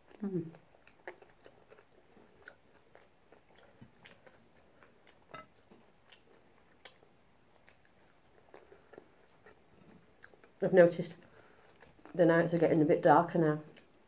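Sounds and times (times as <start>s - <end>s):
chewing soft food: 0.0s - 12.7s, 13.6s - 14.0s.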